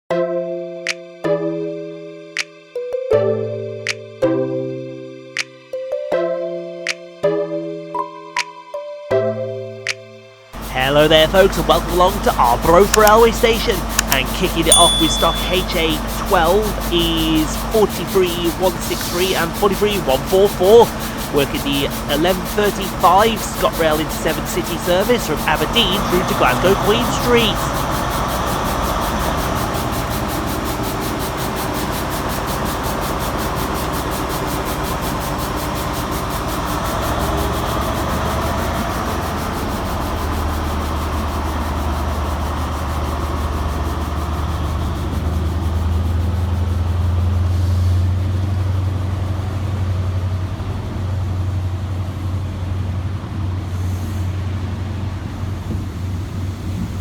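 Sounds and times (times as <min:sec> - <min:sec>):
train diesel engines droning: 0:10.6 - 0:57.0.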